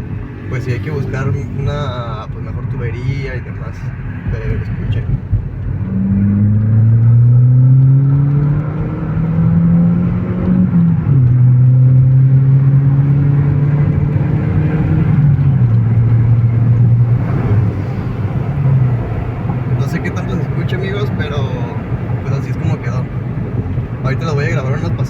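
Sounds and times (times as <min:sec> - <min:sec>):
car engine and exhaust drone: 0:00.0 - 0:25.0.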